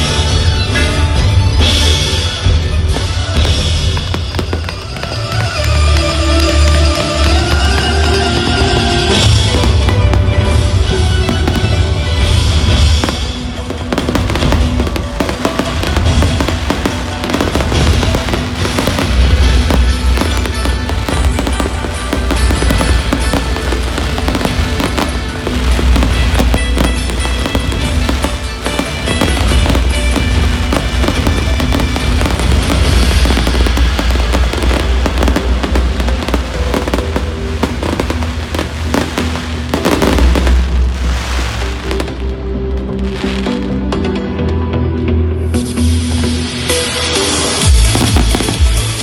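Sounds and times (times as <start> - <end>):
fireworks bangs and crackles: 0.0 - 44.1, 46.5 - 49.0
music with held notes: 0.0 - 49.0.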